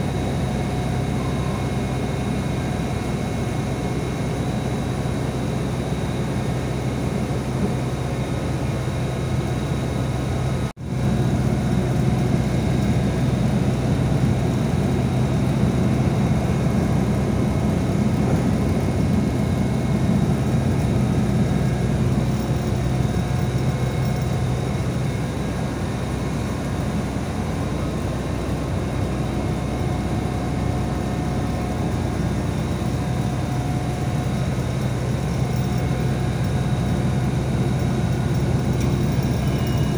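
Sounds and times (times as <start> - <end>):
bus engine and road noise: 0.0 - 39.9
faint steady whine: 0.0 - 39.9.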